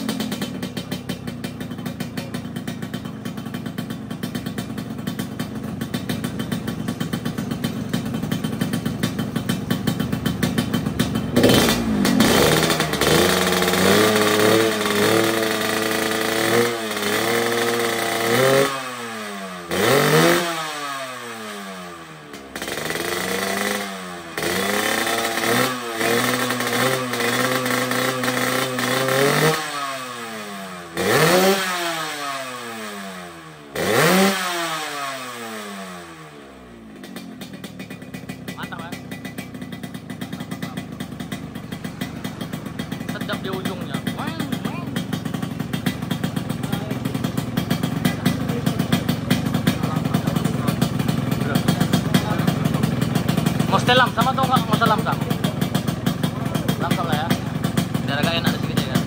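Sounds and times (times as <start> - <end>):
two-stroke engine idling and revving: 0.0 - 59.0.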